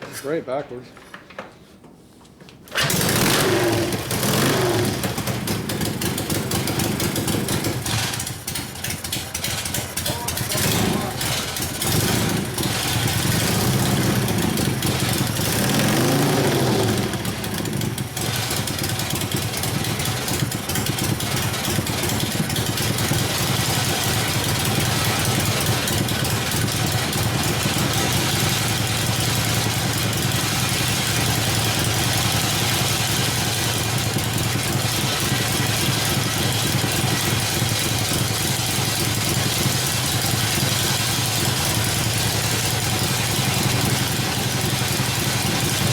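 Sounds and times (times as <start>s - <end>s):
motorcycle engine revving and idling: 2.8s - 45.9s.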